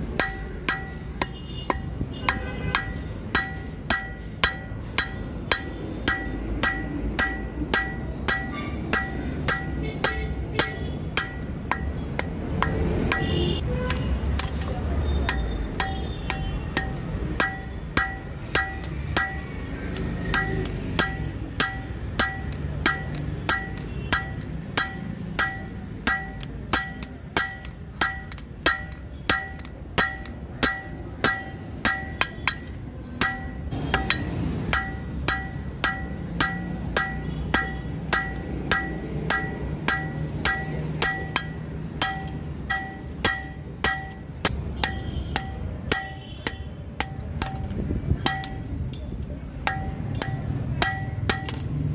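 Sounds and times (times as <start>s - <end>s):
hammer striking steel on anvil: 0.0s - 51.9s.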